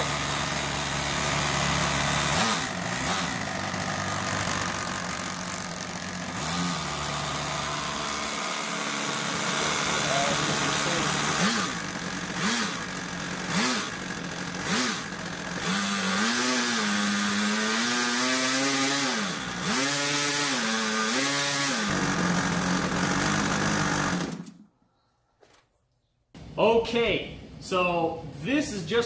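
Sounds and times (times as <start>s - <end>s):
model airplane engine revving: 0.0s - 24.6s.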